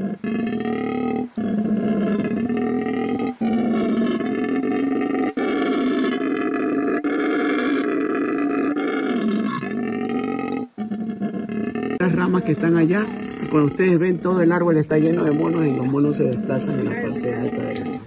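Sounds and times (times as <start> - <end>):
howler monkey roaring: 0.0 - 18.0.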